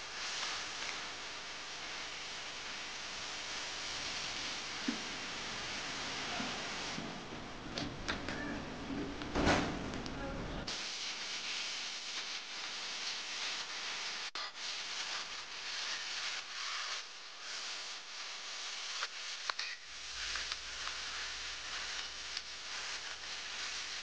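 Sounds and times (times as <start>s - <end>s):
oil sizzling in a wok: 0.0s - 7.6s, 10.7s - 24.0s.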